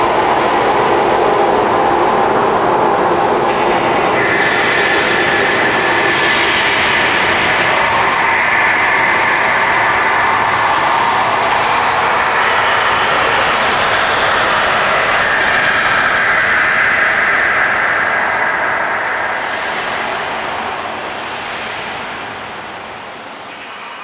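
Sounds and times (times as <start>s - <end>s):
eerie hollow wind rush: 0.0s - 24.0s.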